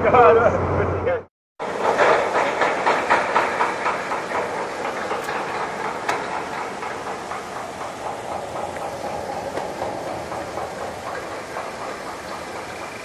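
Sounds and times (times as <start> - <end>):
rhythmic mechanical clatter: 1.6 - 13.0.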